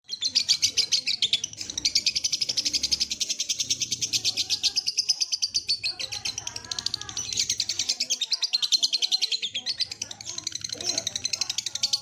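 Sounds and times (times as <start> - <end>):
lovebird chattering: 0.0 - 12.0.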